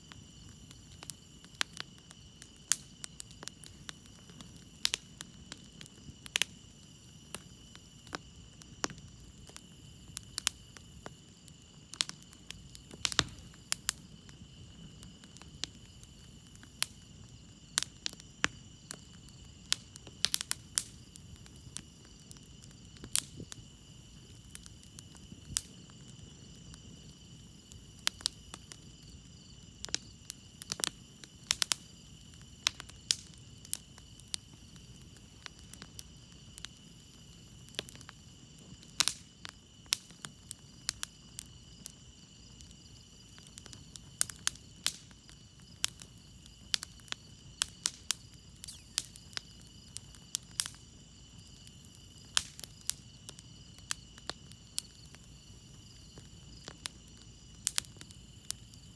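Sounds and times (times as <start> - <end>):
campfire crackling: 0.0 - 58.9
crickets chirping: 0.0 - 58.9.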